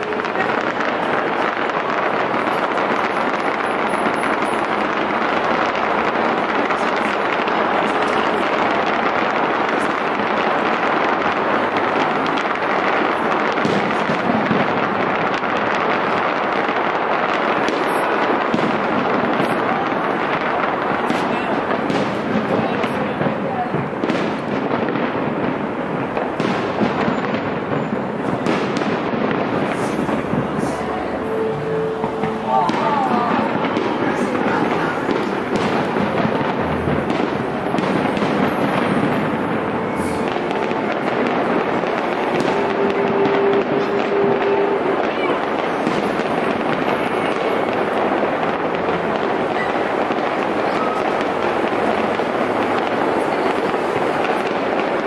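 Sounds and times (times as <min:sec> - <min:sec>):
fireworks bangs and crackle: 0:00.0 - 0:55.0.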